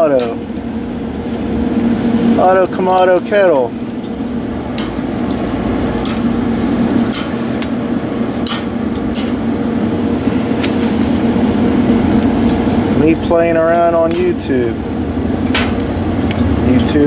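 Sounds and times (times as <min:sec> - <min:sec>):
metal tongs clicking on grill grate: 0:00.0 - 0:01.5, 0:02.2 - 0:17.0
fan humming: 0:00.0 - 0:17.0.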